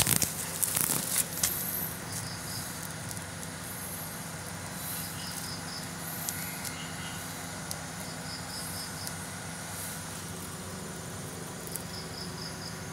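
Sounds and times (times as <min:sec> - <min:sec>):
crickets chirping: 0:00.0 - 0:12.9
low hum and hiss: 0:00.0 - 0:12.9.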